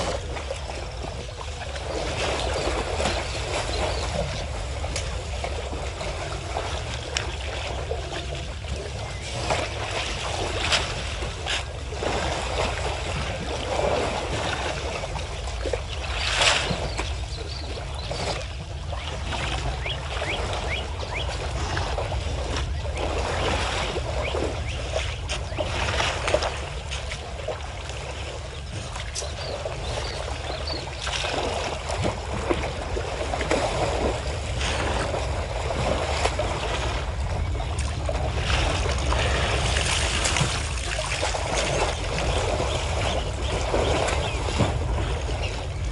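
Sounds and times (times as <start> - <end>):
water splashing and sloshing: 0.0 - 45.9.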